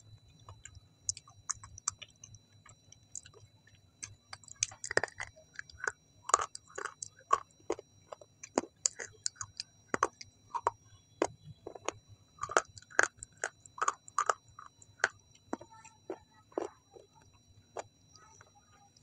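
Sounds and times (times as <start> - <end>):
close chewing with mouth clicks: 0.0 - 19.0.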